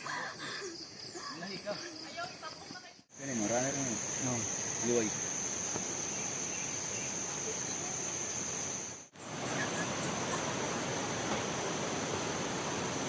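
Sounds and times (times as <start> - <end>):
background hiss: 0.0 - 13.0
forest insects droning: 0.0 - 13.0.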